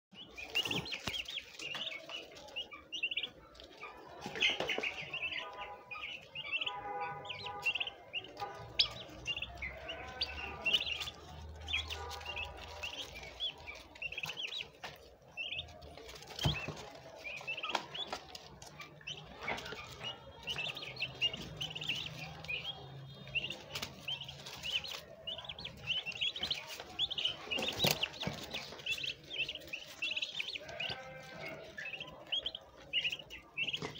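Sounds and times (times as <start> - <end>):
turkey poults peeping: 0.1 - 33.9.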